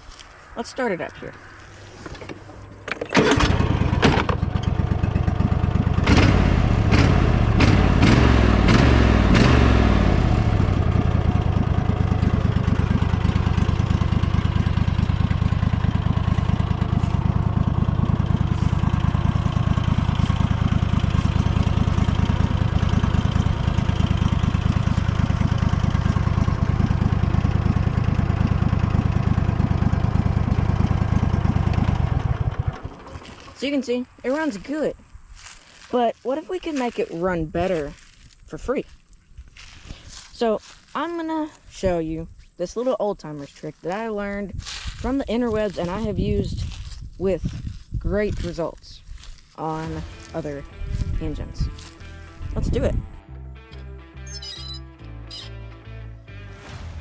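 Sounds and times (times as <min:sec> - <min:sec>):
riding mower engine running: 0:00.0 - 0:38.8, 0:42.8 - 0:57.0.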